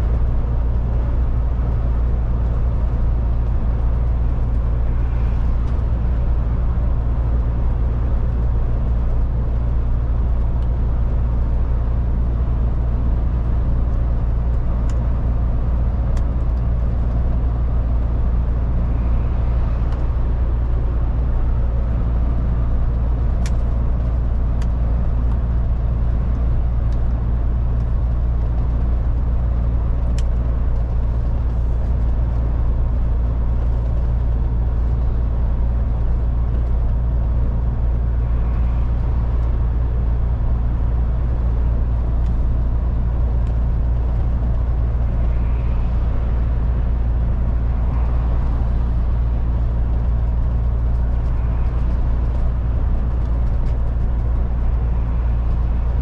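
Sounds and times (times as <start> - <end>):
truck engine and road drone: 0.0 - 56.0.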